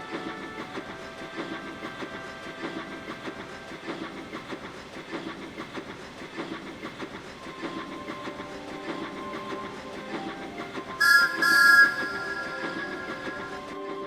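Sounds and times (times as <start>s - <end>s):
train chuffing and clattering: 0.0s - 14.0s.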